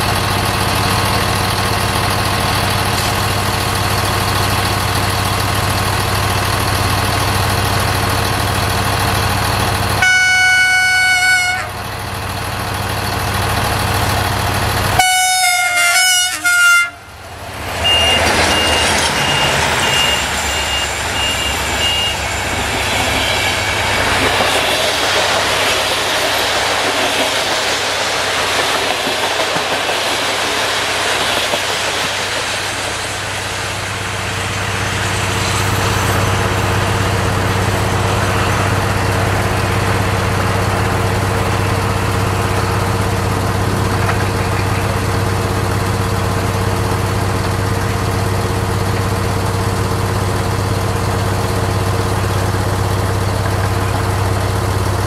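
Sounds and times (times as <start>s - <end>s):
diesel locomotive engine humming: 0.0s - 55.0s
train wheels rushing on rails: 0.0s - 55.0s.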